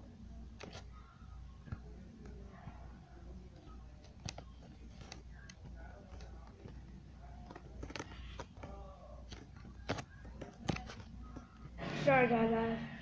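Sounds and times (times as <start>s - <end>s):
faint voices: 0.0s - 13.0s
steady low hum: 0.0s - 13.0s.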